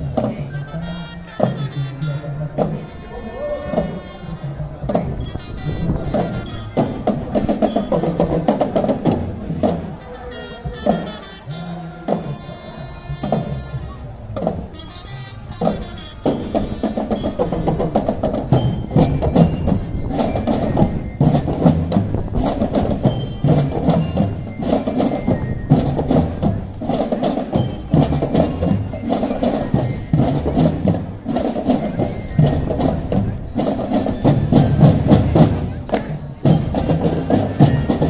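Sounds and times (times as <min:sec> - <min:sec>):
marching drum band playing: 0:00.0 - 0:38.0.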